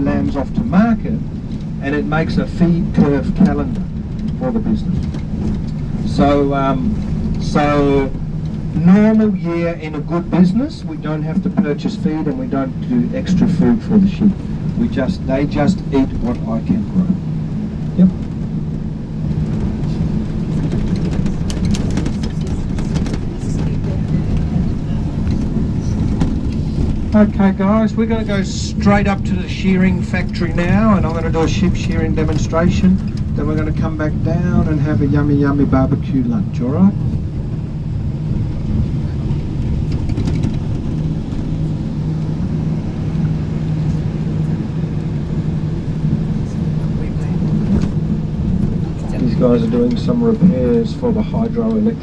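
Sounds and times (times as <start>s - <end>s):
light clicks and rattles: 0.0s - 52.0s
vehicle engine and road noise: 0.0s - 52.0s.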